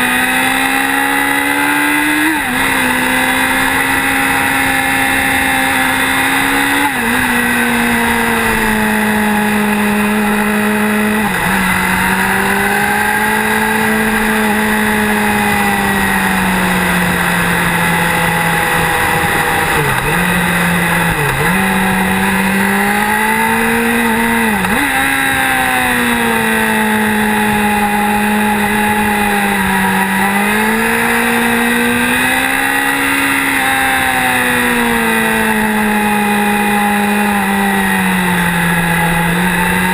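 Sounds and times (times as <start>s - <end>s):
motorcycle engine: 0.0s - 39.9s
wind and road noise: 0.0s - 39.9s.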